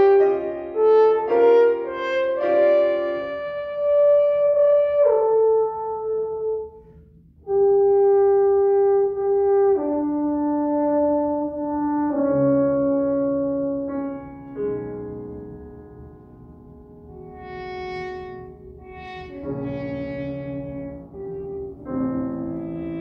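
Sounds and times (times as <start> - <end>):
french horn slow melody: 0.0 - 23.0.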